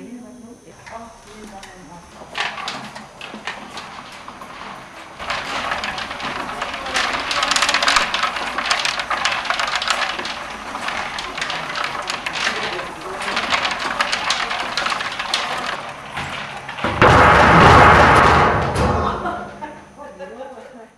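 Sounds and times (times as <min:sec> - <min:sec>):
wooden machine clattering: 0:00.8 - 0:19.7.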